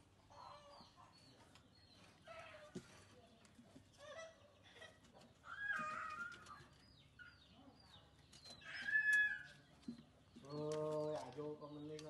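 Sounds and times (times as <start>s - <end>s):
clucking bird calls: 0.0s - 12.0s.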